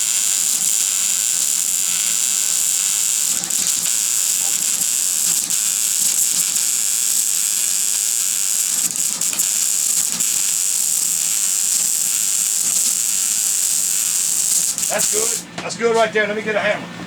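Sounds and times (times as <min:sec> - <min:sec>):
welding arc crackling hiss: 0:00.0 - 0:15.5.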